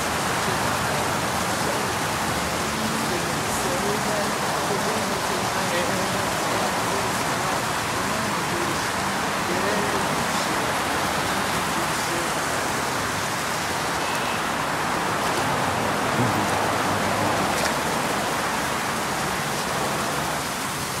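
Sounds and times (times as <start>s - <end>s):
creek water running over rocks: 0.0s - 21.0s.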